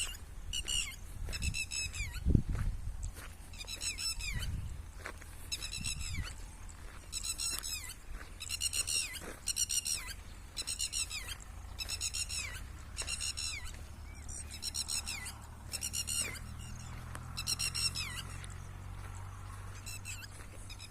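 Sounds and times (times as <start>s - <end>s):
bird making harsh high calls: 0.0s - 2.3s, 3.5s - 4.6s, 5.5s - 6.4s, 7.0s - 18.4s, 19.8s - 20.9s.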